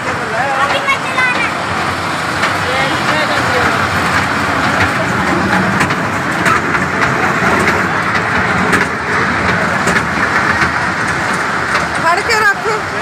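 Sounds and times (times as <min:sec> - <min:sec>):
machinery rushing noise: 0:00.0 - 0:13.0.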